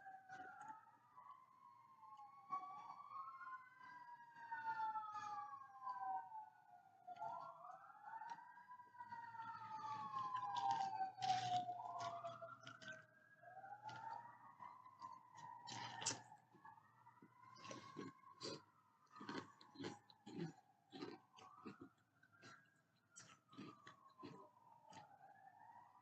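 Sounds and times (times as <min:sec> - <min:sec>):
fire truck sirens wailing: 0:00.0 - 0:26.0.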